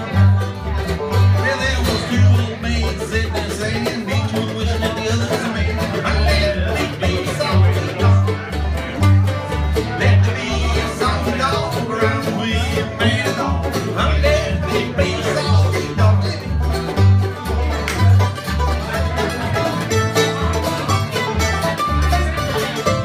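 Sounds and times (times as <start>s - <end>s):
bluegrass band playing: 0.0s - 23.0s
upright bass thumping: 0.0s - 23.0s.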